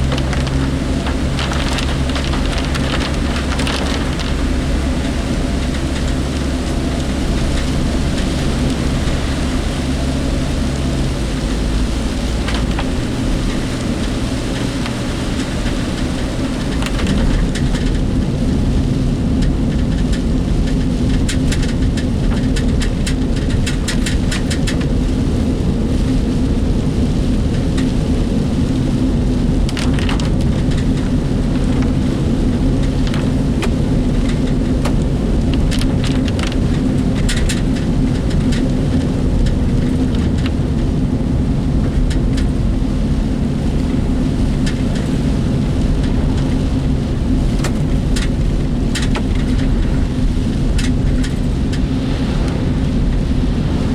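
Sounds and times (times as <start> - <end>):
rain hissing on vehicle: 0.0 - 53.9
road and engine rumble: 0.0 - 53.9.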